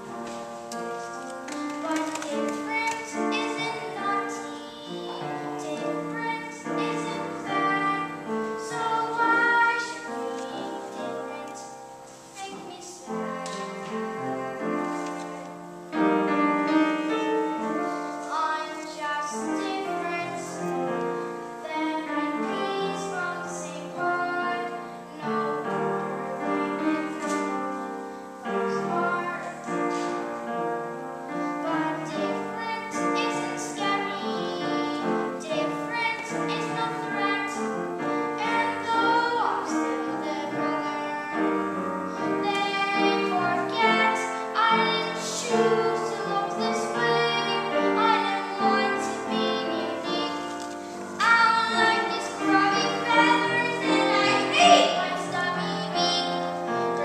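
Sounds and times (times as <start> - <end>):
piano accompaniment: 0.0 - 57.0
boy singing show tune: 1.7 - 14.2, 16.9 - 21.0, 21.6 - 27.6, 31.5 - 57.0.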